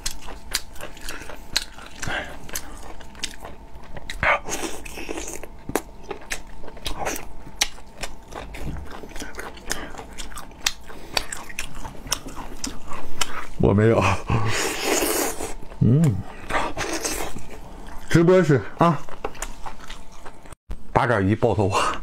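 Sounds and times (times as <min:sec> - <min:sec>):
biting and chewing meat: 0:00.0 - 0:13.7, 0:14.4 - 0:20.6.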